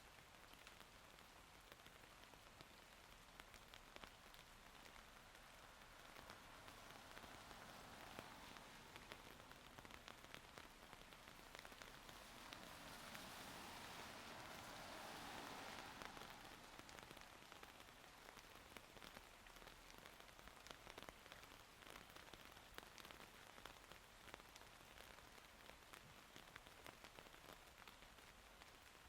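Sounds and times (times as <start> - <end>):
raindrops ticking: 0.0 - 29.0
steady rain: 0.0 - 29.0.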